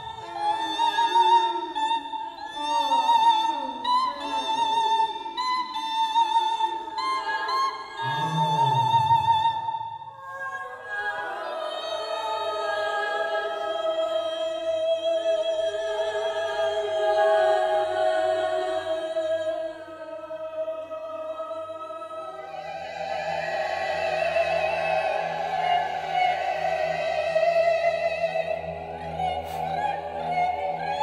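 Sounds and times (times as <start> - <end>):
mixed choir singing: 0.0 - 31.0.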